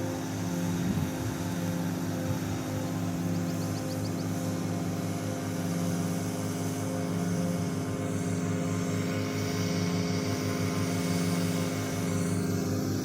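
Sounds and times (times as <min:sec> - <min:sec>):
engine droning hum: 0:00.0 - 0:13.0.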